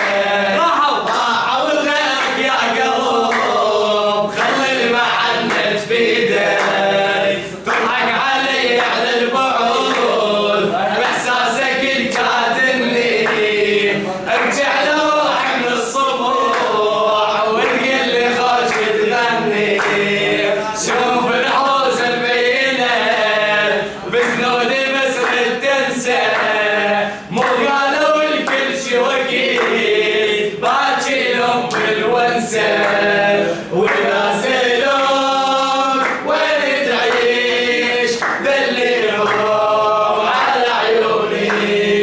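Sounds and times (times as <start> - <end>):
group of voices singing: 0.0 - 42.0.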